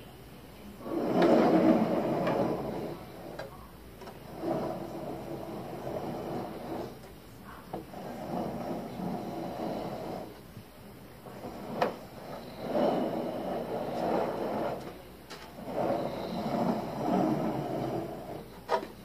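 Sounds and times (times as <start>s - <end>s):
plastic scraping on workbench: 0.8s - 7.1s, 7.8s - 10.4s, 11.2s - 19.0s.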